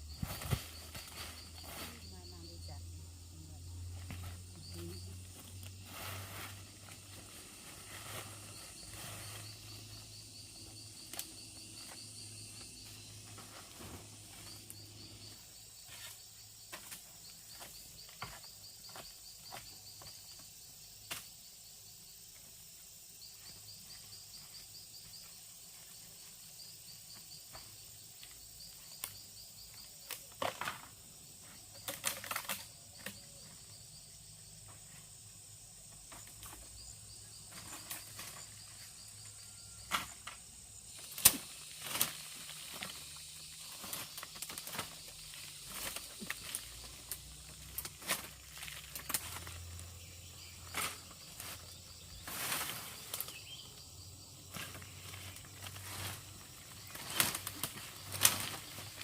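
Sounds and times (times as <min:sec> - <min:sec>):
high insect drone: 0:00.0 - 0:59.0
insects chirping in trills: 0:00.0 - 0:59.0.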